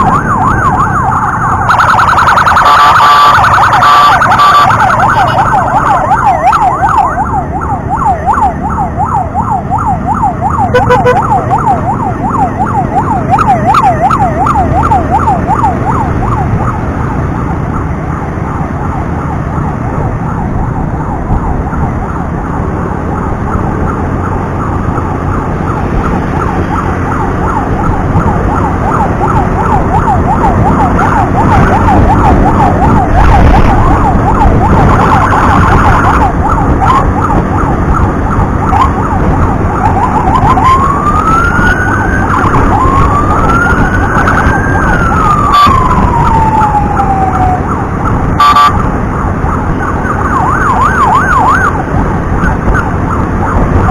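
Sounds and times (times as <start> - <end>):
ambulance siren yelping: 0.0 - 53.9
road and wind noise: 0.0 - 53.9.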